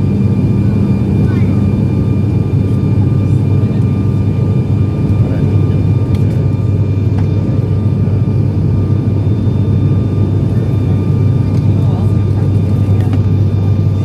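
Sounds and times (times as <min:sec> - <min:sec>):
airliner engines at high power: 0:00.0 - 0:14.0
thin steady whines: 0:00.0 - 0:14.0.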